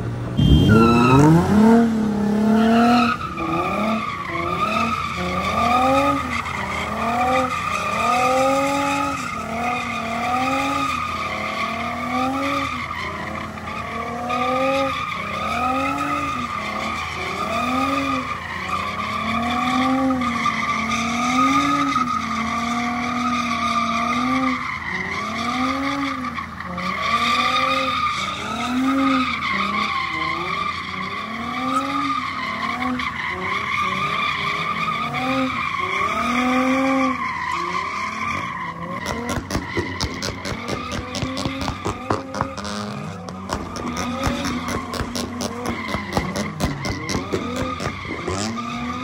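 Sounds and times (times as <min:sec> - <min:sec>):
car engine revving: 0:00.2 - 0:49.0.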